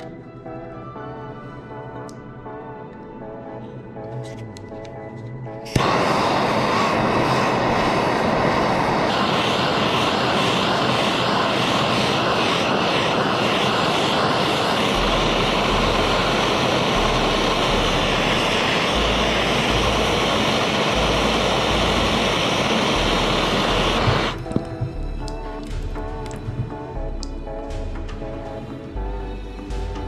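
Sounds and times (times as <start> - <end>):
gas torch roaring hiss: 5.6 - 30.0.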